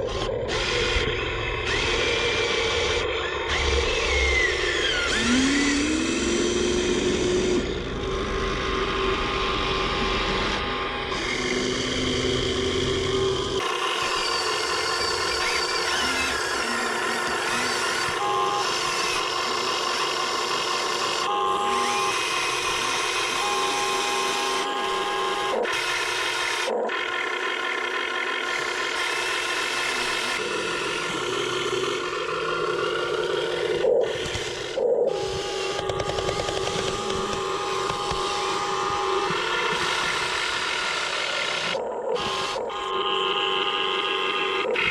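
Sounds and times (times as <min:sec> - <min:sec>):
small electric motors whining: 0:00.0 - 0:44.9.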